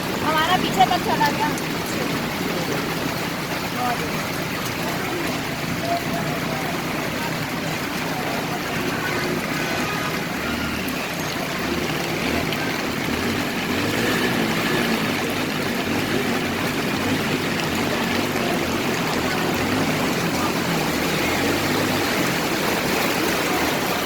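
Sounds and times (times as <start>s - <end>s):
floodwater washing on street: 0.0s - 24.0s
vehicle engine running low: 0.0s - 24.0s.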